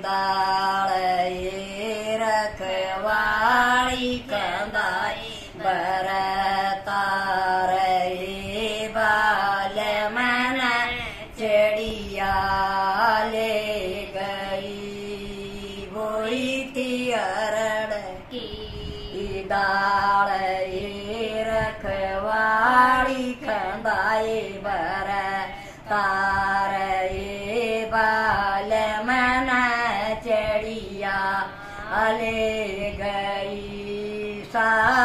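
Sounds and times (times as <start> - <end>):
steady low hum: 0.0 - 35.0
woman singing folk song: 0.0 - 35.0.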